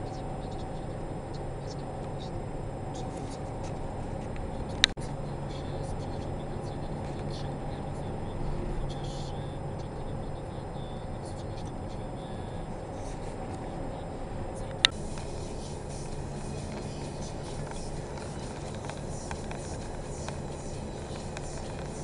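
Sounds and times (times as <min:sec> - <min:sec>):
car engine hum and road noise: 0:00.0 - 0:22.0.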